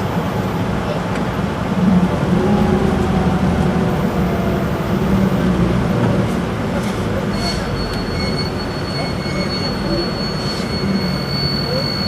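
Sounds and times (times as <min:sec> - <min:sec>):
bus engine hum inside cabin: 0:00.0 - 0:12.0.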